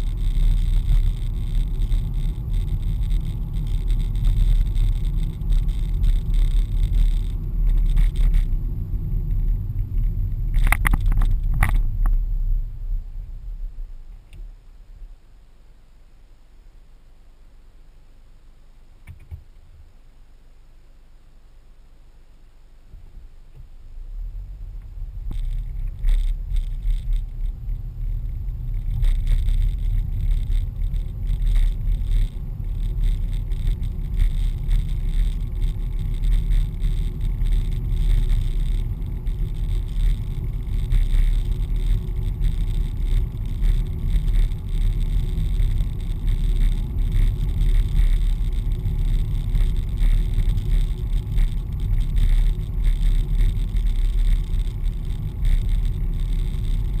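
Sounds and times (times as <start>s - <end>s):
car engine and road rumble: 0.0s - 57.0s
crackles: 0.0s - 57.0s.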